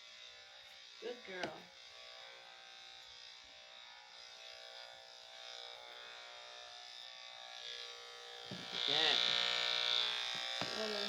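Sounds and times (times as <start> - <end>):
electric clippers buzzing: 0.0 - 11.0.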